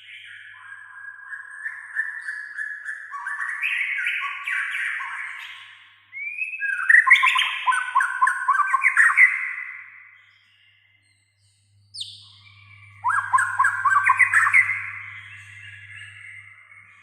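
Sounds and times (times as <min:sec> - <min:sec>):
bird singing whistled notes: 0:00.0 - 0:17.0.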